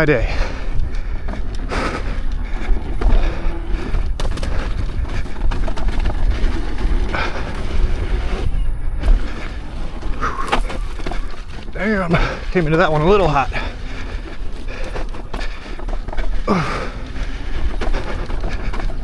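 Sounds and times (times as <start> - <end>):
tyre running over dirt trail: 0.0 - 19.0.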